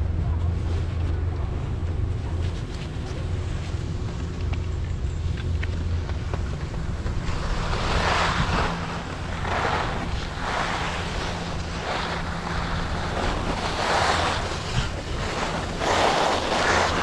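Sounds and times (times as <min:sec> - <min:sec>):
wind rumbling on microphone: 0:00.0 - 0:17.0
skis carving on snow: 0:01.5 - 0:17.0.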